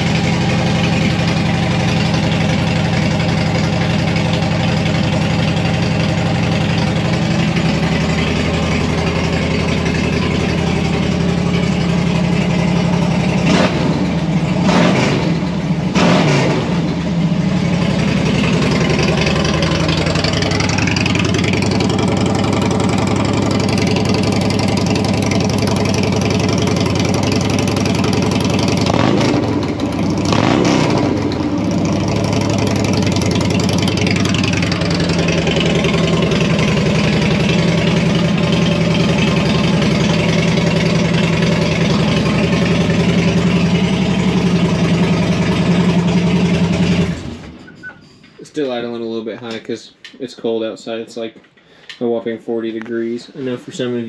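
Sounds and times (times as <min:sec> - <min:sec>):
motorcycle engine revving and idling: 0:00.0 - 0:48.0.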